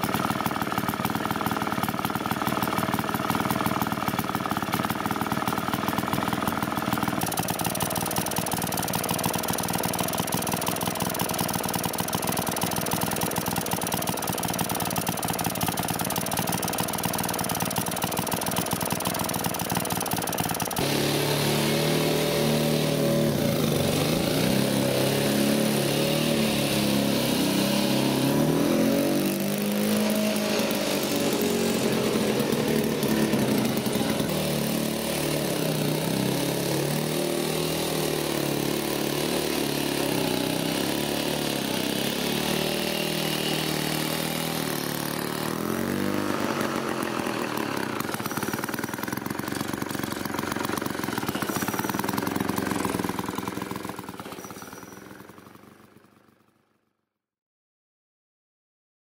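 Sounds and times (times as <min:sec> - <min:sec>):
lawn mower engine cutting grass: 0:00.0 - 0:56.4.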